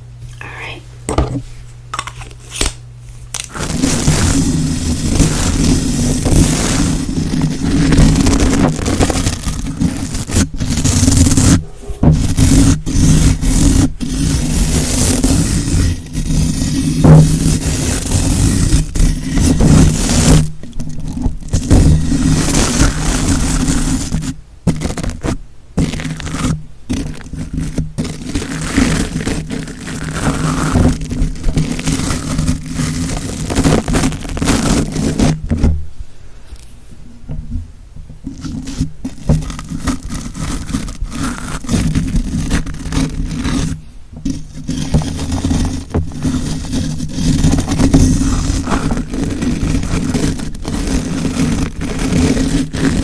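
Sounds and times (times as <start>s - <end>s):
close-miked scraping: 0.0s - 35.8s, 36.4s - 53.0s.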